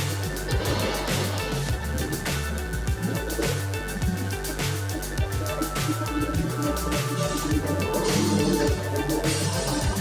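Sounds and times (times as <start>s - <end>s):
pop song with steady beat: 0.0s - 10.0s.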